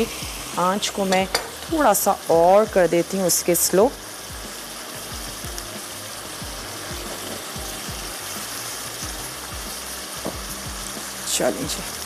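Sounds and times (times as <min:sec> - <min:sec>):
masala sizzling and bubbling: 0:00.0 - 0:12.0.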